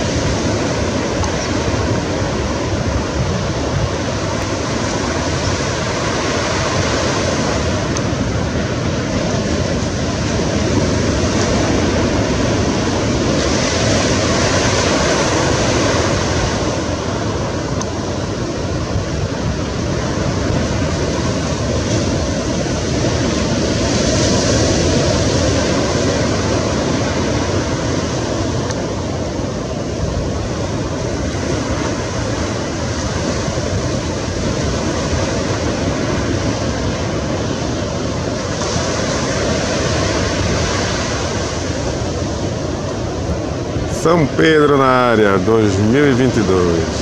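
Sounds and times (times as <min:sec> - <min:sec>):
ocean surf washing on beach: 0:00.0 - 0:47.0
wind: 0:00.0 - 0:47.0.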